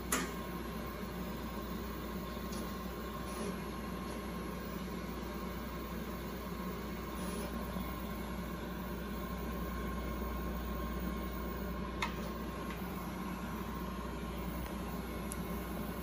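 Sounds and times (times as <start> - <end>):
equipment hum and fan whir: 0.0 - 16.0.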